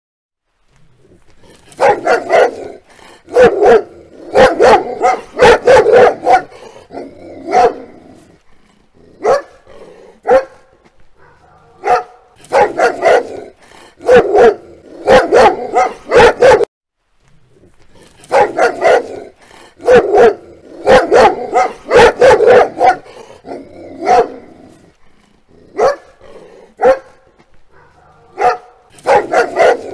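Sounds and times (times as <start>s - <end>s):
dog barking angrily: 1.6s - 8.3s, 9.2s - 16.7s, 18.2s - 24.8s, 25.6s - 29.9s.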